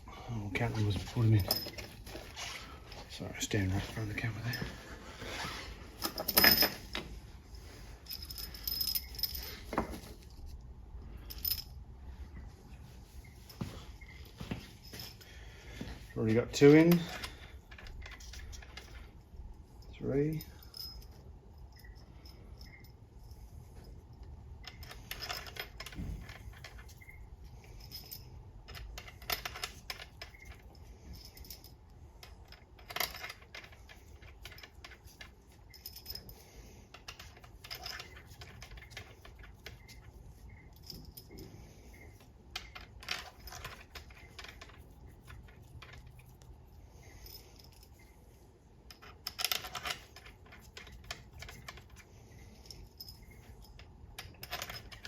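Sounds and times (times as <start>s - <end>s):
metallic clinks of bolts and tools: 0.6s - 4.8s, 6.0s - 7.2s, 8.0s - 10.6s, 13.5s - 48.2s, 48.8s - 55.0s.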